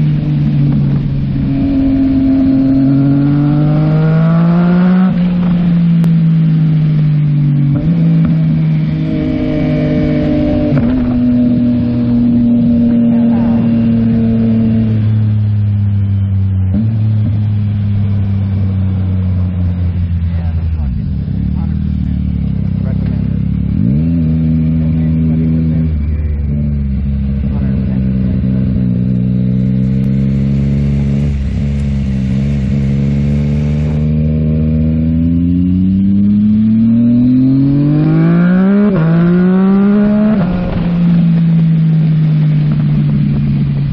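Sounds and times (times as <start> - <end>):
motorcycle engine running loud: 0.0 - 43.9.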